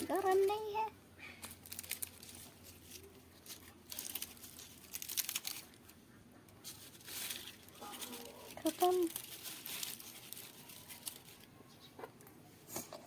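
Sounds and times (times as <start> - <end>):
hands crinkling roasted leaves: 0.0 - 11.8.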